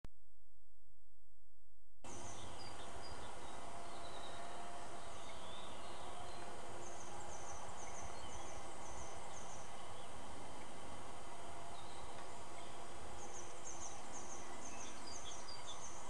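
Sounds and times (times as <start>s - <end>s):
steady background hiss: 2.1s - 16.0s.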